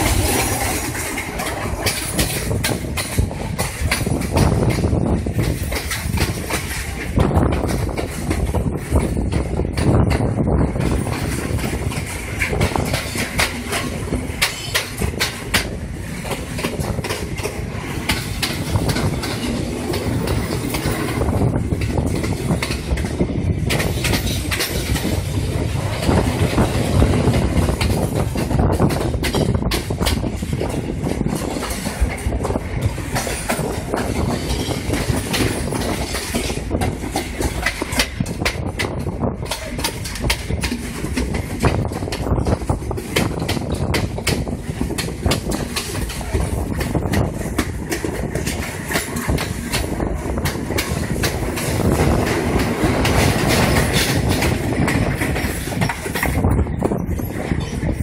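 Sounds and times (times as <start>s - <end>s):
train rumbling: 0.0s - 58.0s
wheels clattering over rail joints: 0.0s - 58.0s.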